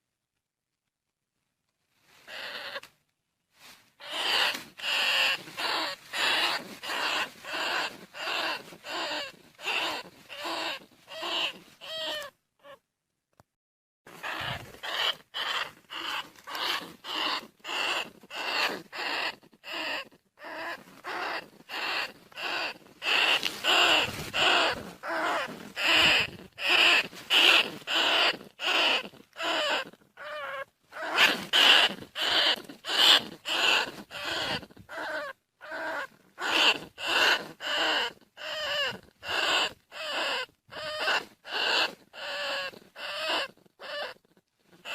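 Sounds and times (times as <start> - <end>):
rat squealing: 2.3 - 2.9, 4.0 - 12.8, 14.1 - 44.9.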